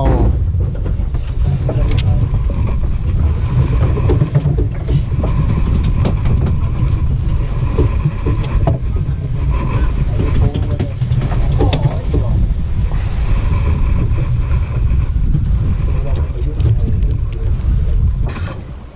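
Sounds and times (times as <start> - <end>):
boat engine rumbling: 0.0 - 18.9.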